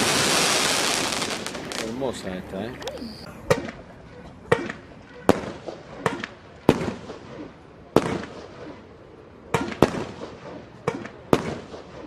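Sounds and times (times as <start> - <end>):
fireworks banging and crackling: 0.0 - 3.8, 4.6 - 8.7, 9.5 - 12.0.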